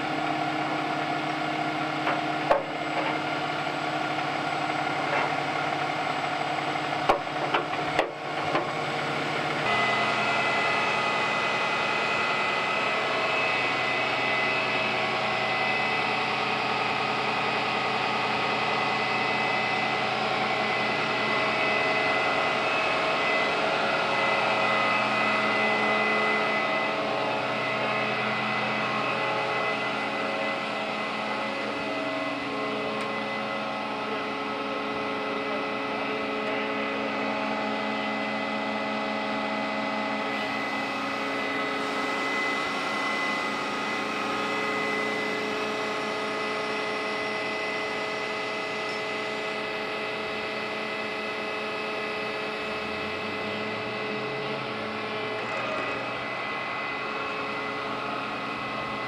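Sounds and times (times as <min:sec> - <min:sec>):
fire truck engine and hydraulics: 0:00.0 - 0:59.0.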